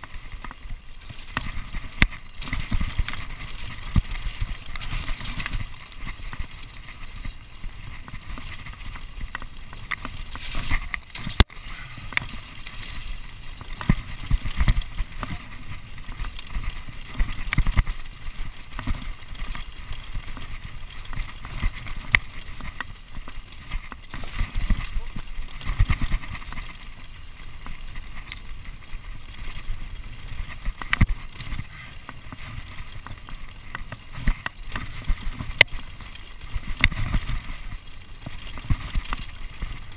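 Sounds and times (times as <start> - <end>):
bike clattering and rattling: 0.0 - 39.9.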